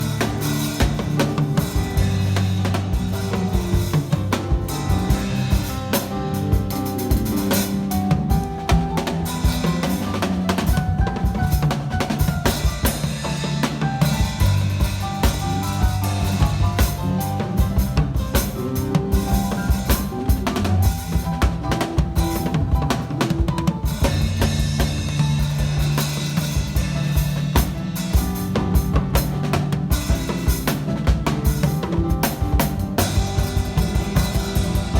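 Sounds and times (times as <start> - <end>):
bass line: 0.0 - 34.9
drum kit playing: 0.0 - 34.9.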